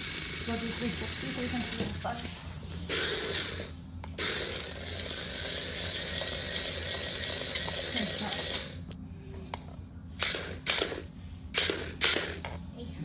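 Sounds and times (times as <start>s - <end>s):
toy electric motors whirring: 0.0s - 2.2s, 2.9s - 8.9s, 10.2s - 12.6s.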